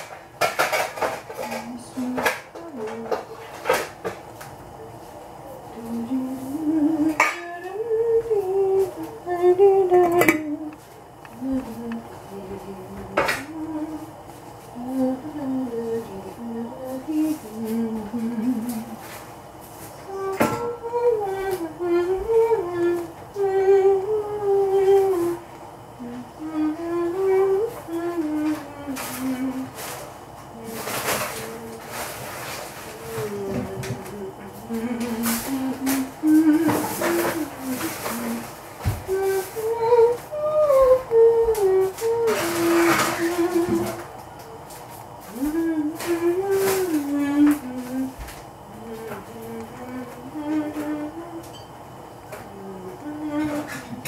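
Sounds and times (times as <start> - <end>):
person humming a slow tune: 1.4 - 3.9, 4.8 - 19.2, 20.0 - 51.7, 52.3 - 54.0.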